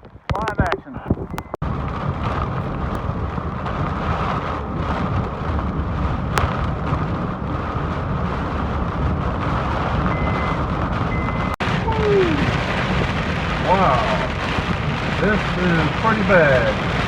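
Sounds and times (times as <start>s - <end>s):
road and wind rumble: 0.0s - 17.0s
heavy rain on a car: 0.3s - 17.0s.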